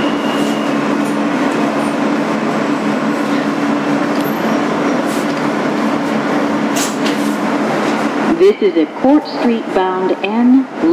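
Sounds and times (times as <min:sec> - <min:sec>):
subway car rumble: 0:00.0 - 0:10.9.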